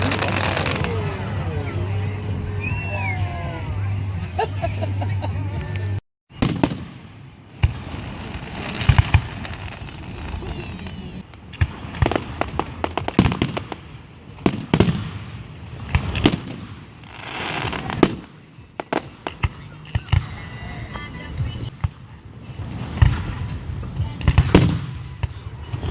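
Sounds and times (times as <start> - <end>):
fireworks bangs: 0.0 - 4.2, 6.3 - 25.9
fireworks crackling and hissing: 0.0 - 25.9.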